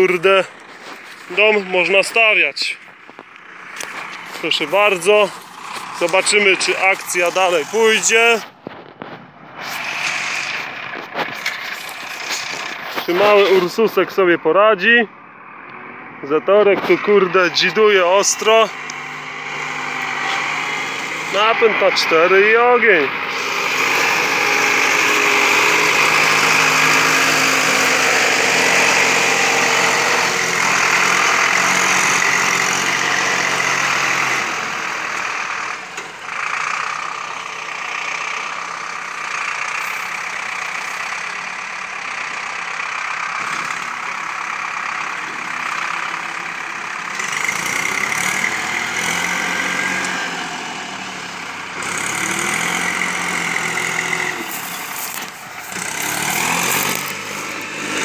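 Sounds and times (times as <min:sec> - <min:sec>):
tractor diesel engines straining: 0:00.0 - 0:58.0.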